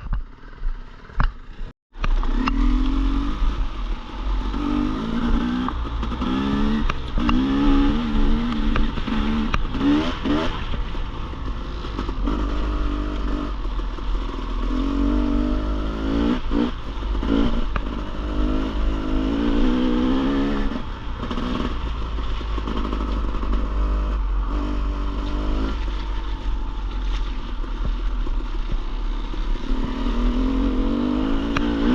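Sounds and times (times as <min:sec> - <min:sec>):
dirt bike engine revving: 0:02.0 - 0:31.9.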